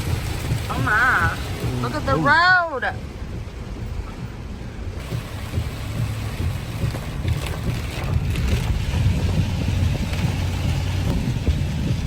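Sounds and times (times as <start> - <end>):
car rumbling on road: 0.0 - 12.0.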